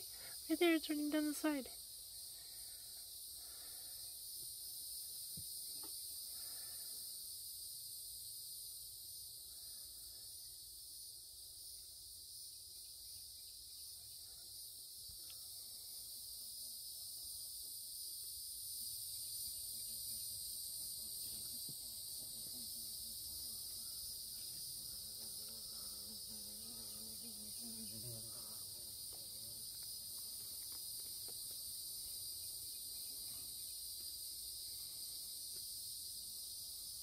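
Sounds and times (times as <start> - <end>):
insects singing high drone: 0.0 - 37.0.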